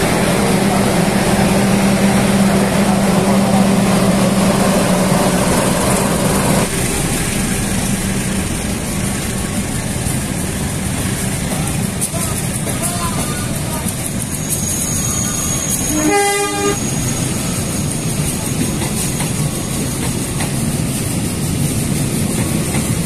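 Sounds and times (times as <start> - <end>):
diesel locomotive drone: 0.0 - 23.0
standing train rumble: 0.0 - 23.0.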